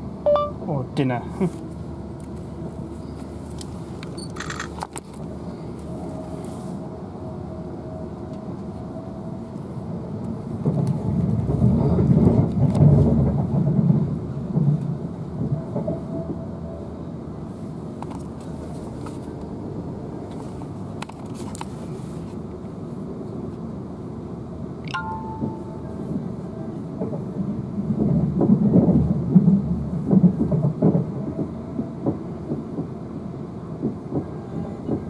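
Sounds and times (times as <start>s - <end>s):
train wheels rumbling on rail: 1.2s - 24.7s, 25.4s - 35.0s.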